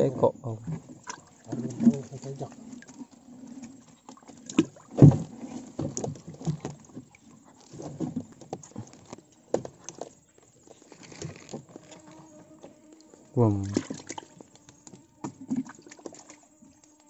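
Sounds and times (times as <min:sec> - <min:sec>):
knocks and clatter in wooden boat: 0:00.0 - 0:12.8, 0:13.6 - 0:17.0.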